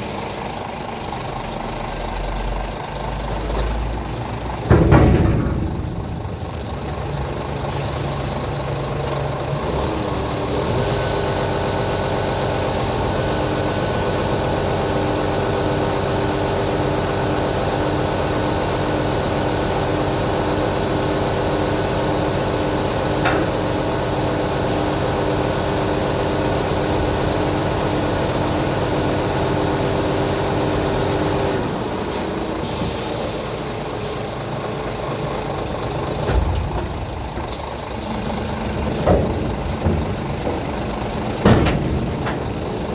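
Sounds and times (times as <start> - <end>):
diesel truck engine running: 0.0 - 42.9.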